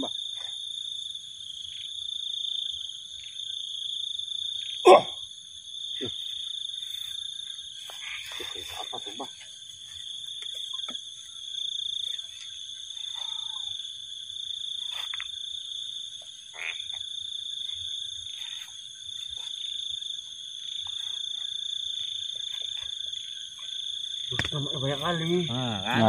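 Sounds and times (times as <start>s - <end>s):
night insects and frogs chorus: 0.0s - 26.0s.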